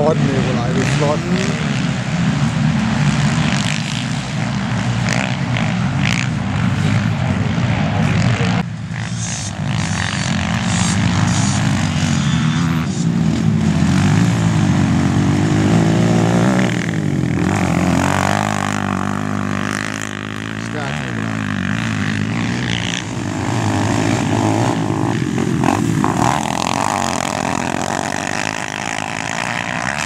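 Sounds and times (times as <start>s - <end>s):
quad engines revving: 0.0s - 30.0s.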